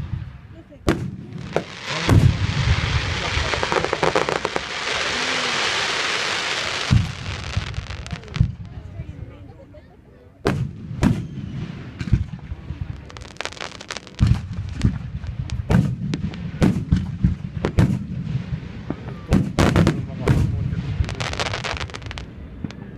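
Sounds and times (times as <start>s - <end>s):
firework bangs: 0.0s - 9.0s, 10.4s - 22.9s
firework crackling: 0.0s - 9.0s, 10.5s - 22.9s.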